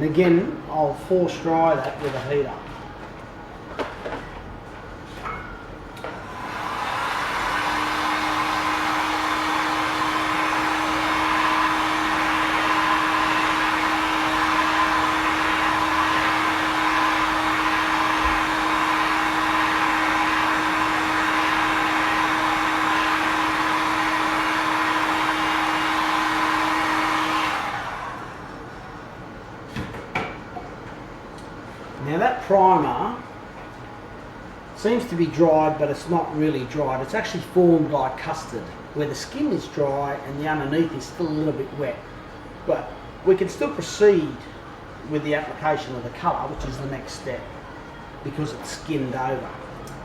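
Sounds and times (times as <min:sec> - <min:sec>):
hot-air heater blowing: 0:00.0 - 0:50.0.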